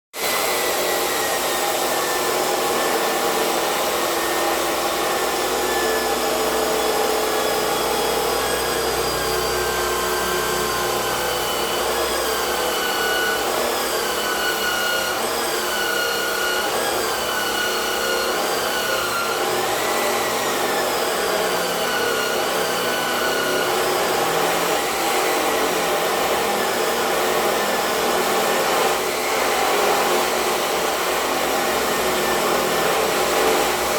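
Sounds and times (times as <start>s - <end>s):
motor-driven tool whirring: 0.2s - 33.9s.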